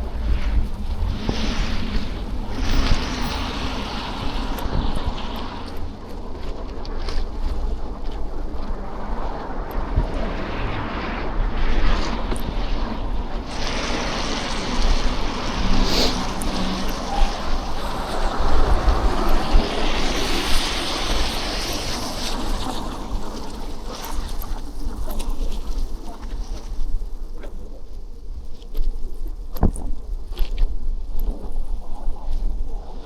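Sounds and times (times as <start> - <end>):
street traffic hiss: 0.0 - 28.2
wind rumbling on microphone: 0.0 - 33.0.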